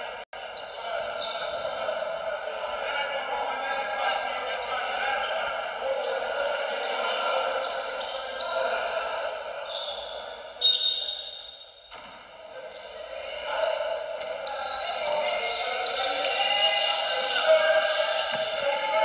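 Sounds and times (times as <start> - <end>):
chatter of players and spectators: 0.0 - 19.0.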